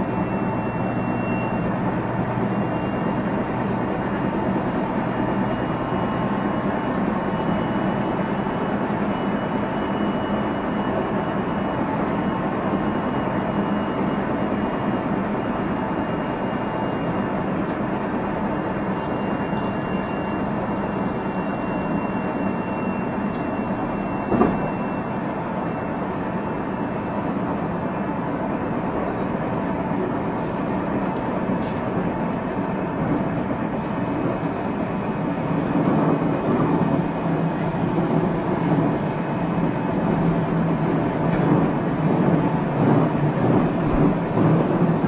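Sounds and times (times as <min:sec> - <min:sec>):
train rolling noise: 0:00.0 - 0:45.0.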